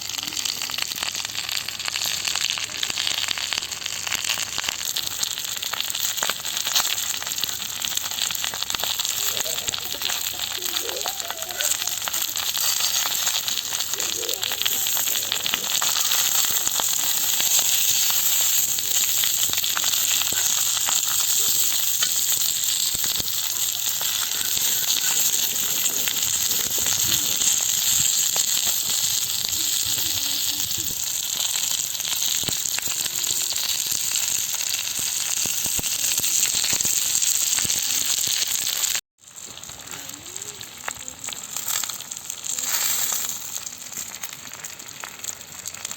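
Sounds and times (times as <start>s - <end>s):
oil sizzling on a griddle: 0.0s - 45.9s.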